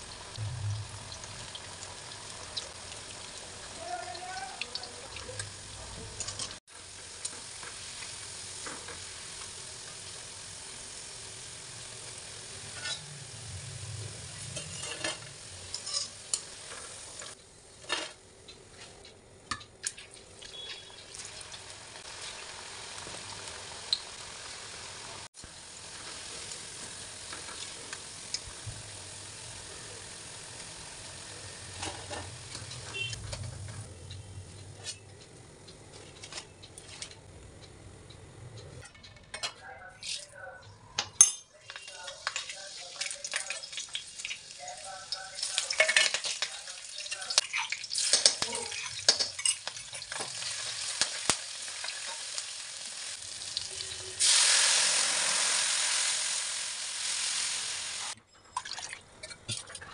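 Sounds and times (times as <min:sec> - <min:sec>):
food deep-frying in oil: 0:00.0 - 0:37.4, 0:41.2 - 0:59.0.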